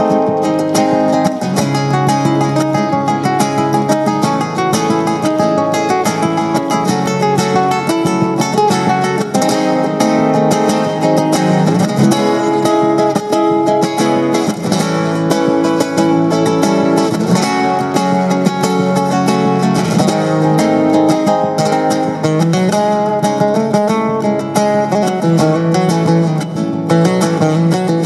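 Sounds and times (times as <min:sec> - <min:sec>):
flamenco acoustic guitar: 0:00.0 - 0:28.0.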